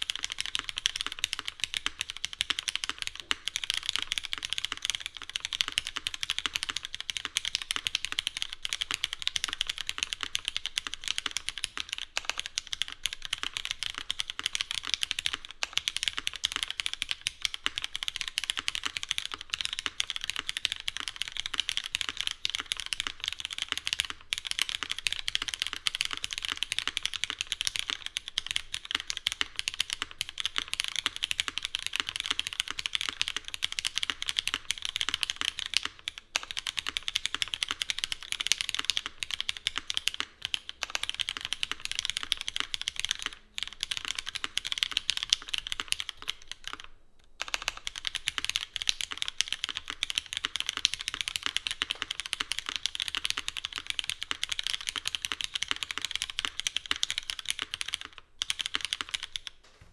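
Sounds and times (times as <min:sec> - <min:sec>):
fast mechanical keyboard typing: 0:00.0 - 0:59.6.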